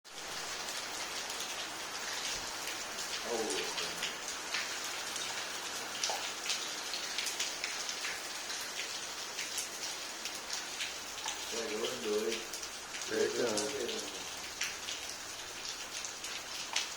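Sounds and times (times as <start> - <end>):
rain falling: 0.1 - 16.9
raindrops ticking on surface: 0.1 - 16.9.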